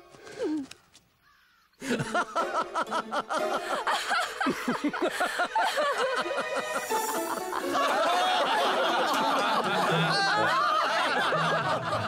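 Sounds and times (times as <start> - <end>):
crowd laughing: 1.8 - 12.0.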